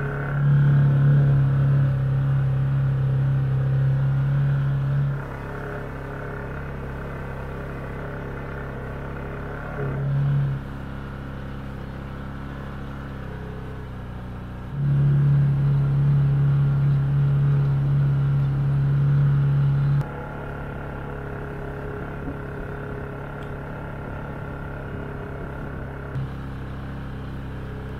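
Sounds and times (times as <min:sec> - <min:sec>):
engine running: 0:00.0 - 0:27.9.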